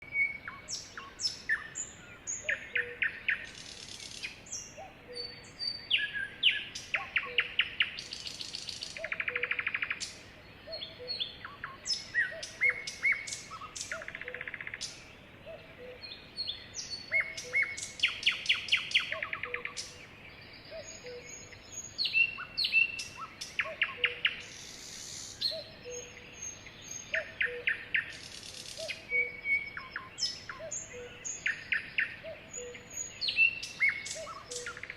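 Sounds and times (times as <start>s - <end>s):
sparrows chirping and trilling: 0.4s - 34.9s.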